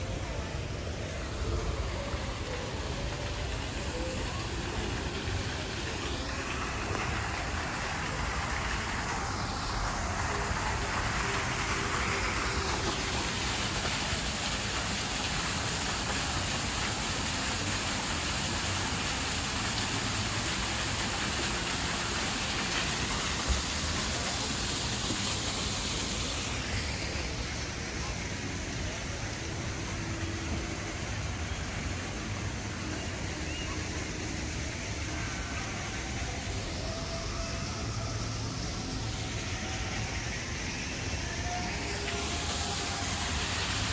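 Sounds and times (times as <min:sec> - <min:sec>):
waterfall pouring over rocks: 0:00.0 - 0:43.9.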